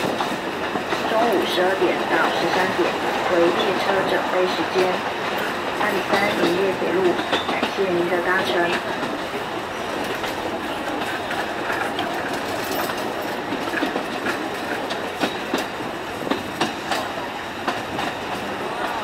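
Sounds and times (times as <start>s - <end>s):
train carriage rumble: 0.0s - 19.0s.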